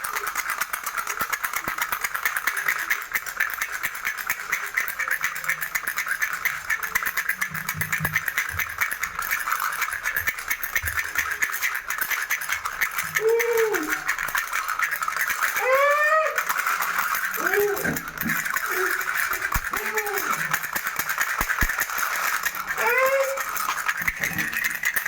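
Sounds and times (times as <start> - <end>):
baby rattle shaking: 0.0 - 25.0.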